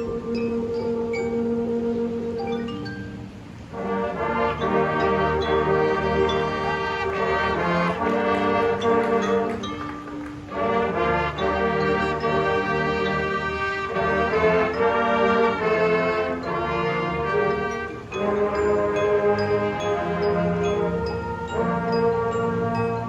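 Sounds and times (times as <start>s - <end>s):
brass band playing chords: 3.2s - 23.0s.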